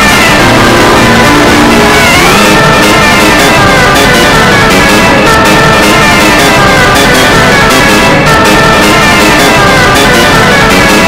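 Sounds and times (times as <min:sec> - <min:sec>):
loud distorted guitar music: 0:00.0 - 0:11.0.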